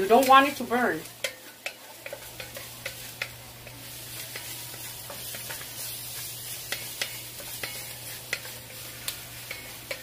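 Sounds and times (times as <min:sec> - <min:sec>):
vegetables sizzling in a pot: 0:00.0 - 0:10.0.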